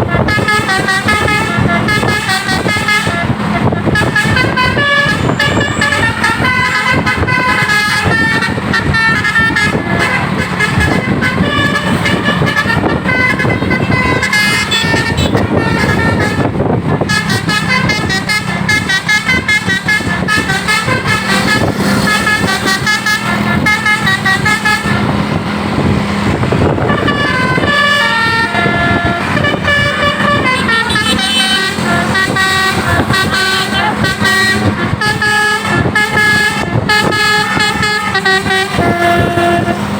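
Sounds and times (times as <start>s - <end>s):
bus multi-trumpet horn tune: 0.0s - 39.9s.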